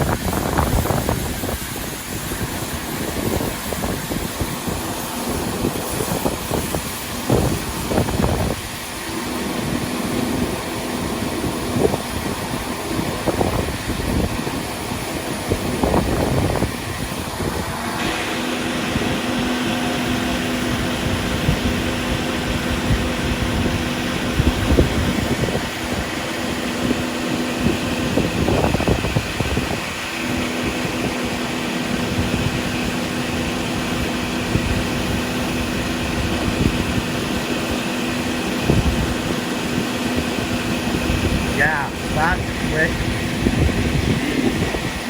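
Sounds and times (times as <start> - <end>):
harvest machinery engine hum: 0.0 - 45.0.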